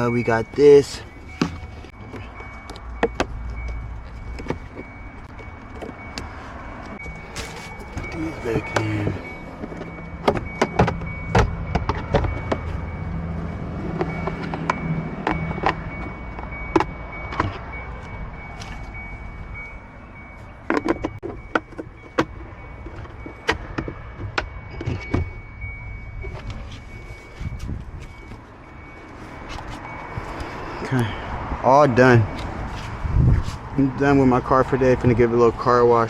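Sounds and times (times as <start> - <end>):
faint steady high tone: 0.0 - 32.5.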